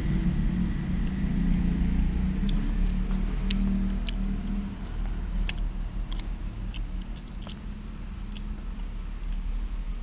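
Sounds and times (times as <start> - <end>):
low hum: 0.0 - 10.0
person chewing: 0.0 - 10.0.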